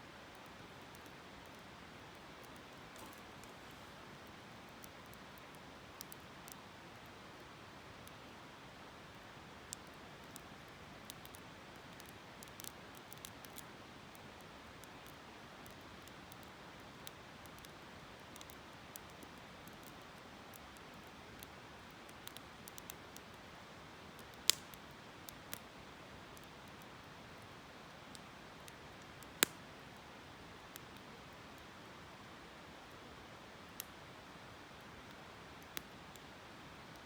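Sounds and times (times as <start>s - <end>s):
campfire crackling and popping: 0.3s - 7.1s, 9.7s - 31.8s, 33.6s - 37.0s.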